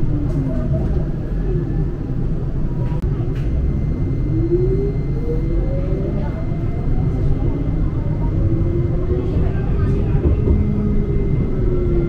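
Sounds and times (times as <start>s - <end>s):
tram running rumble: 0.0s - 12.0s.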